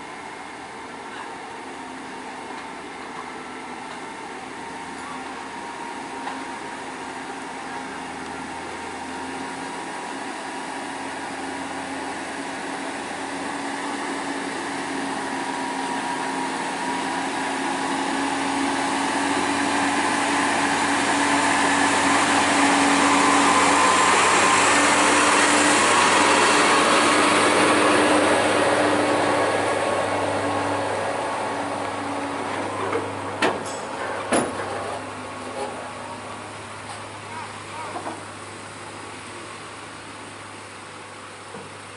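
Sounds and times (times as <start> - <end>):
heavy truck engine under load: 0.0 - 41.9.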